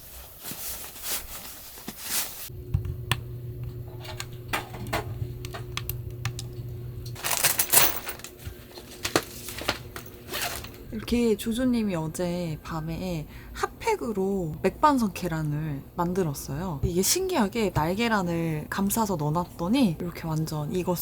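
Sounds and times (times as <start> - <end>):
low steady hum: 2.5 - 21.0.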